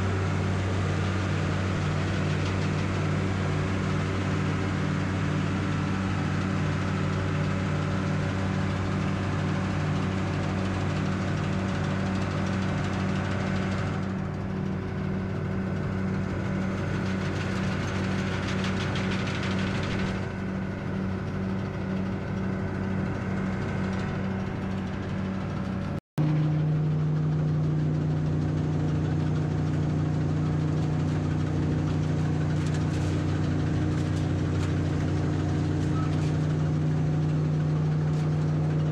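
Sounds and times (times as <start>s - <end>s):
farm machinery engine running: 0.0s - 38.9s.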